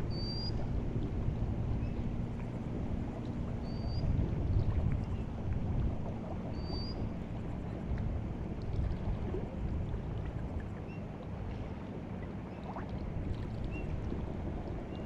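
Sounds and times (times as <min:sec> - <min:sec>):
water lapping at shoreline: 0:00.0 - 0:15.0.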